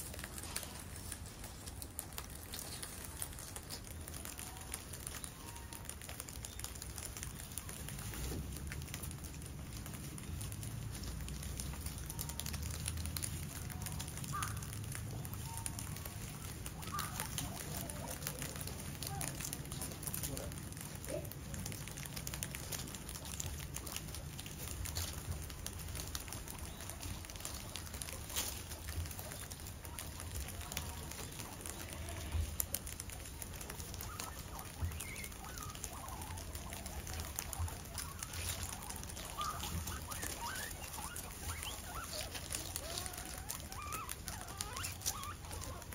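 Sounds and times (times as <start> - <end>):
guinea pig high chirps: 0.0 - 45.9
guinea pigs munching leaves: 0.0 - 45.9
leaves rustling: 0.0 - 45.9.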